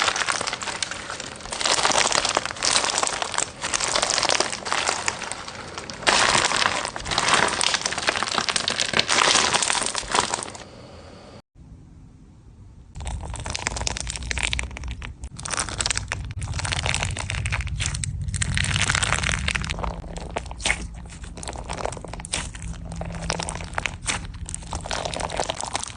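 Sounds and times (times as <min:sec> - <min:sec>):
crunchy slime crackling: 0:00.0 - 0:10.7, 0:12.9 - 0:25.9.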